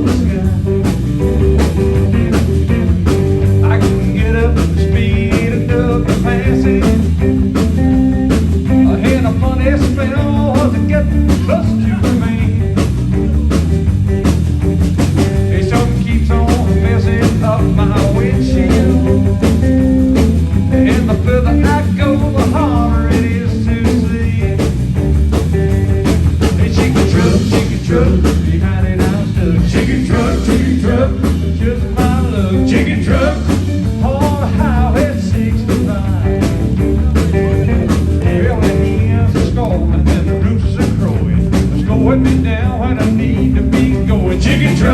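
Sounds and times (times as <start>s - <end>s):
band playing country-rock song: 0.0s - 44.9s.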